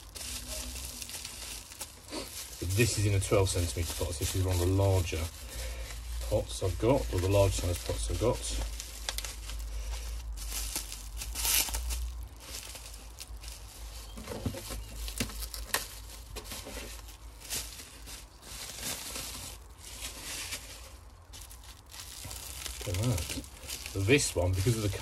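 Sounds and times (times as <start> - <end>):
plastic film crinkling: 0.0 - 25.0.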